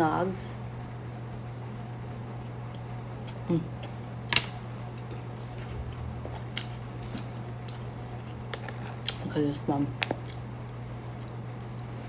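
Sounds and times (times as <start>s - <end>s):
steady low hum: 0.6s - 12.0s.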